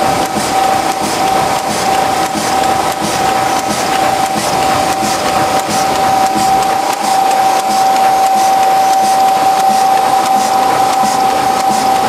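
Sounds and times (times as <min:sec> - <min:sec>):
coating machine whine: 0:00.0 - 0:12.0
faint regular machine beat: 0:00.0 - 0:12.0.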